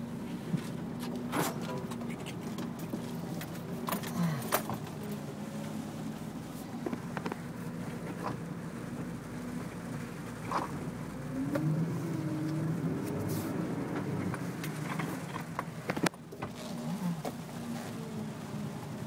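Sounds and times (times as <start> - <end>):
engine pulling at low speed: 0.0 - 19.0.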